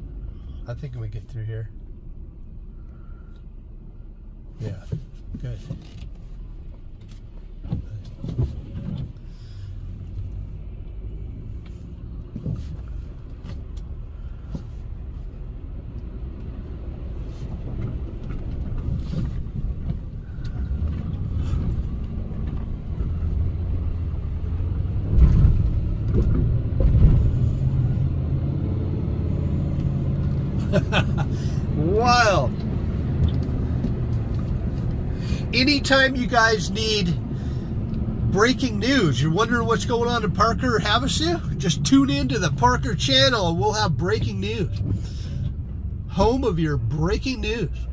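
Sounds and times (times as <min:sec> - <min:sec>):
car engine and road rumble: 0:00.0 - 0:47.9.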